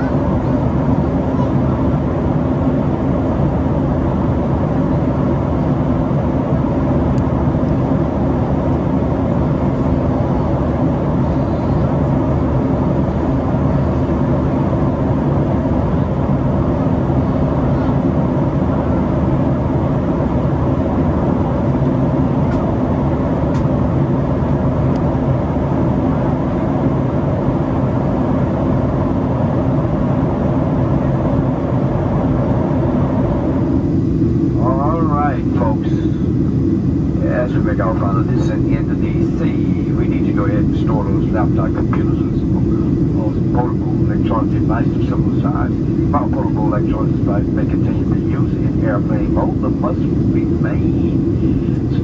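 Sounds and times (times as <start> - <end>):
airplane cabin airflow and engine drone: 0.0 - 52.0
constant low hum: 0.0 - 52.0.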